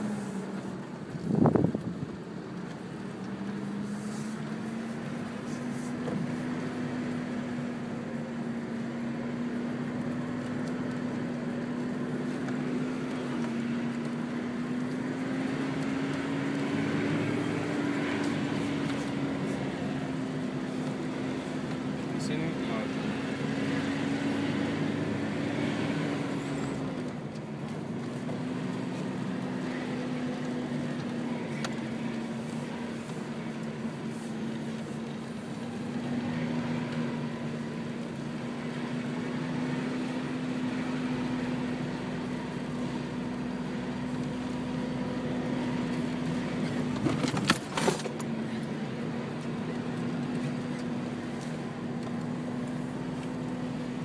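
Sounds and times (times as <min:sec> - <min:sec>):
car engine humming: 0:00.0 - 0:54.0.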